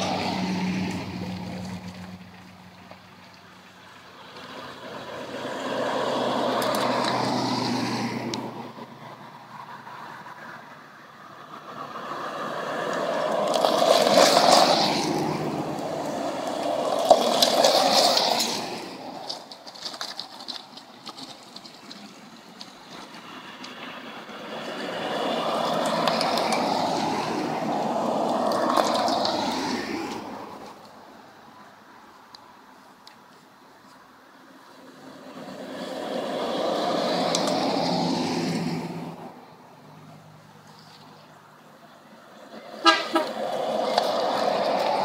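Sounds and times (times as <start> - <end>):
cars driving past: 0.0 - 45.0.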